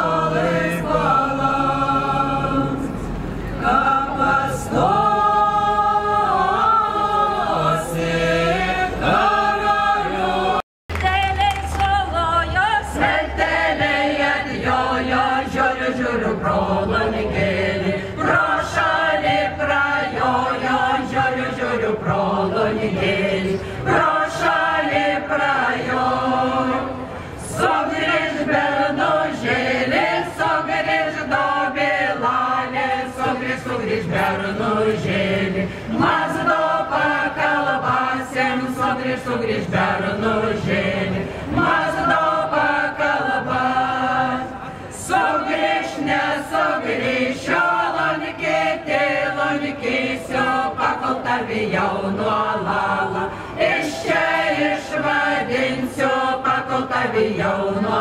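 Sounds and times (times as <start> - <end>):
group of people singing: 0.0 - 11.2, 11.9 - 58.0.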